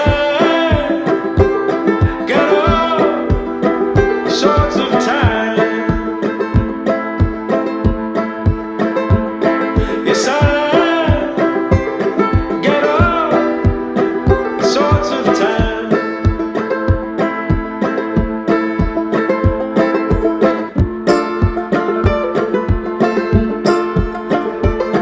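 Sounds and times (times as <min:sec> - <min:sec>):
banjo-led country song: 0:00.0 - 0:25.0.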